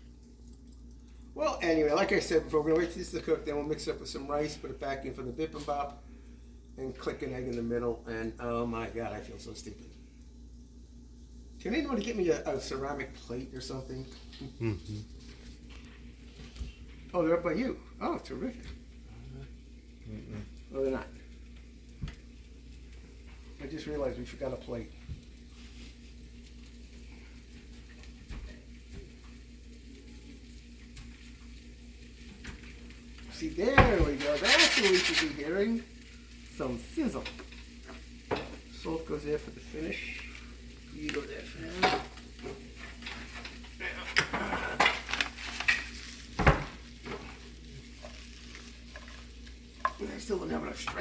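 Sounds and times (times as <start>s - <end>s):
low steady hum: 0.0s - 51.0s
mushrooms sizzling in a frying pan: 1.3s - 14.8s, 16.9s - 51.0s.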